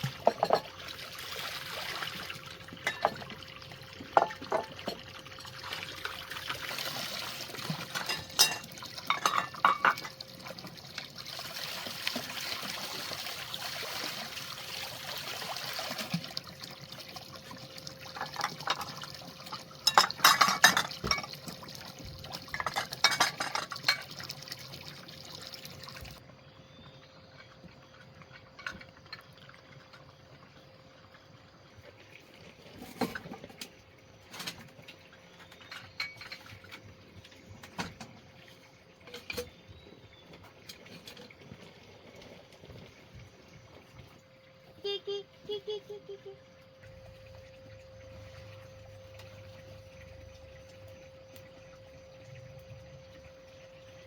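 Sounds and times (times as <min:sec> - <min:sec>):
water pouring and splashing: 0:00.0 - 0:26.4, 0:27.2 - 0:45.7, 0:46.5 - 0:54.0.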